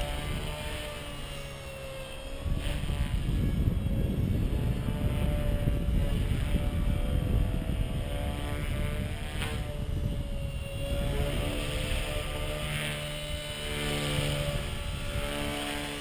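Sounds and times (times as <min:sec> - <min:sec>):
rc helicopter motor whine: 0:00.0 - 0:16.0
wind rumble on microphone: 0:00.0 - 0:16.0.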